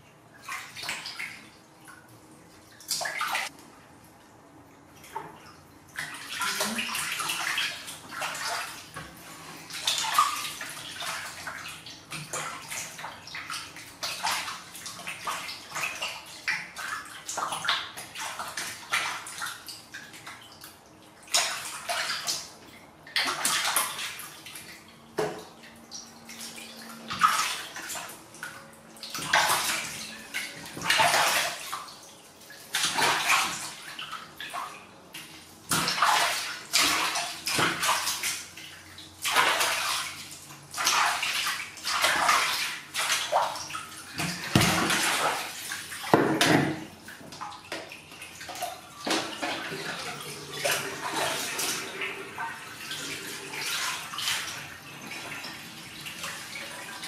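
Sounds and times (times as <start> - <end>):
water splashing in a plastic basin: 0.3 - 3.6, 5.0 - 57.0.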